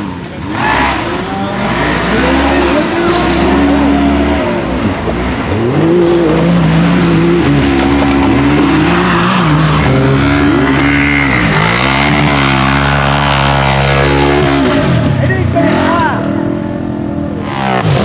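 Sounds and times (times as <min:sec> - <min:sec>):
utv engine revving: 0:00.0 - 0:18.0.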